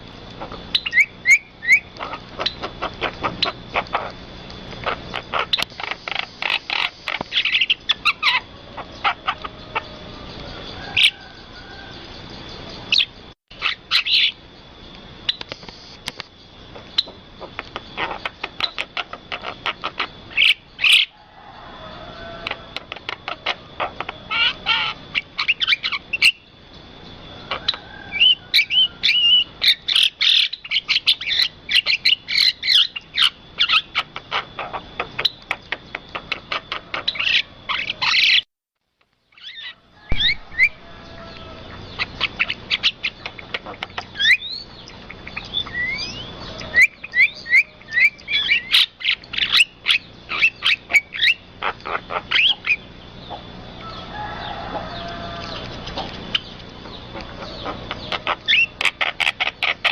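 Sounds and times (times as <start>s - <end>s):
birds chirping: 0.0s - 38.5s, 39.2s - 59.9s.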